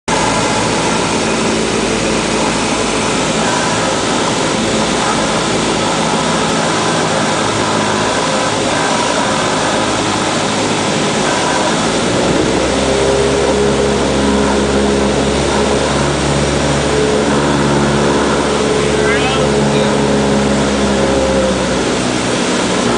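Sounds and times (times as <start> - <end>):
deep steady hum: 0.1 - 22.9
plane engine and propeller drone: 0.1 - 22.9
rushing air: 0.1 - 22.9.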